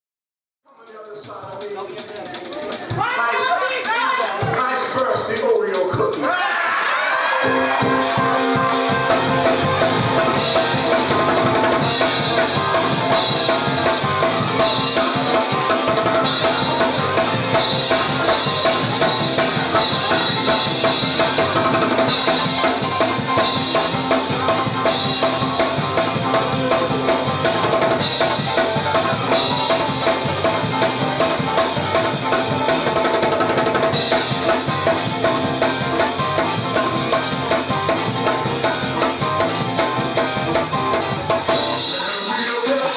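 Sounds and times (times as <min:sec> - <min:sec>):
drum kit beat: 0:00.8 - 0:42.9
gospel praise music: 0:00.9 - 0:42.9
held keyboard notes: 0:07.4 - 0:42.0.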